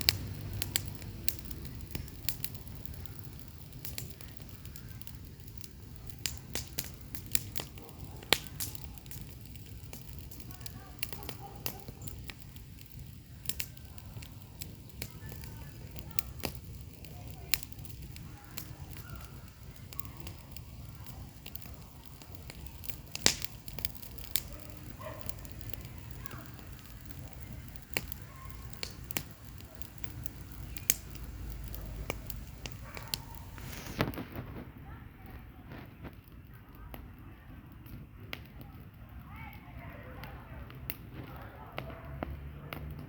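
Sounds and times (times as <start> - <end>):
bonfire crackling and popping: 0.0 - 43.0.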